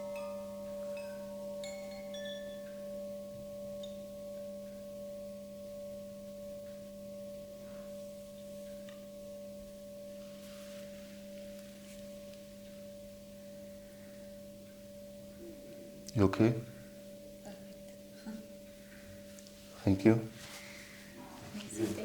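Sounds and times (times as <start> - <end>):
light high chime notes: 0.0 - 21.2
singing bowl ringing: 0.0 - 21.2.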